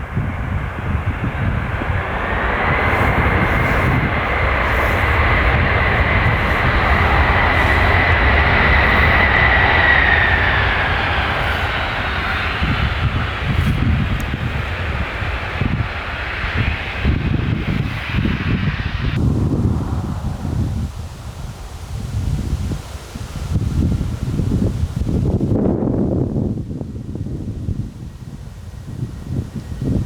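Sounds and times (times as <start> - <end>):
high fan whine: 0.0 - 30.0
jet airliner rushing engine noise: 0.0 - 30.0.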